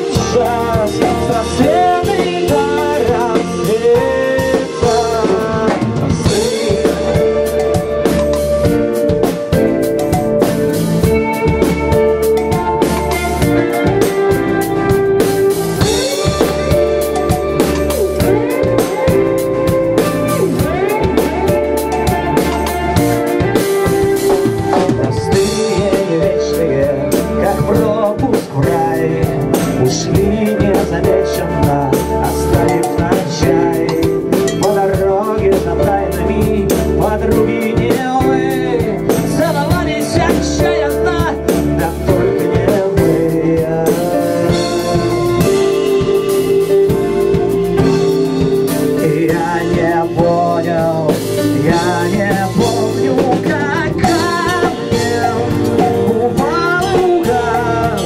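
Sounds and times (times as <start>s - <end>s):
drum kit beat: 0.0s - 58.0s
electric bass: 0.0s - 58.0s
electric guitar: 0.0s - 58.0s
rock band playing live: 0.0s - 58.0s.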